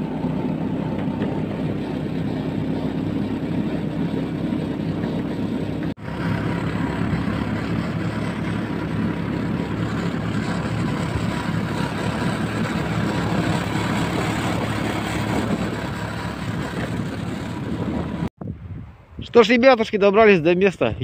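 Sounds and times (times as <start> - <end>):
small engine droning: 0.0 - 18.3
wind and track noise: 0.0 - 21.0.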